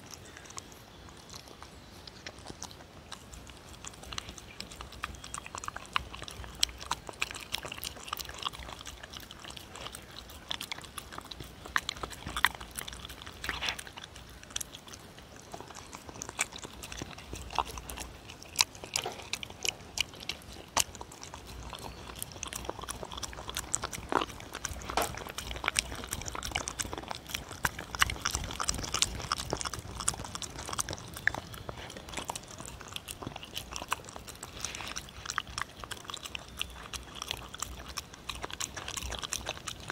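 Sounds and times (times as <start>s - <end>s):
dog chewing and smacking: 0.0s - 39.9s.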